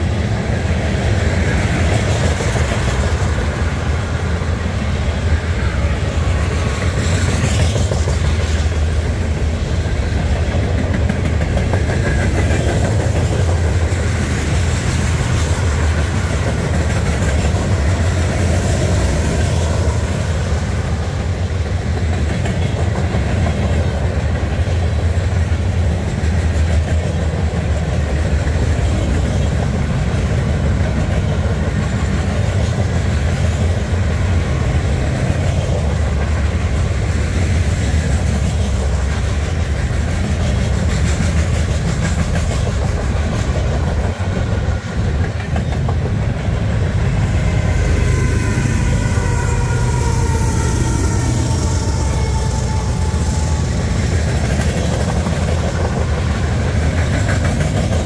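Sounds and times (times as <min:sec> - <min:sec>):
train wheels rumbling on rails: 0:00.0 - 0:58.0
wheels clickety-clack: 0:00.0 - 0:58.0.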